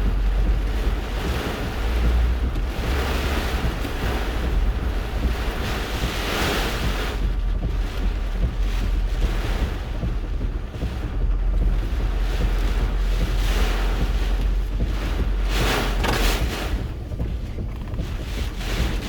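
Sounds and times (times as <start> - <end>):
strong wind rushing: 0.0 - 19.0
wind buffeting microphone: 0.0 - 19.0.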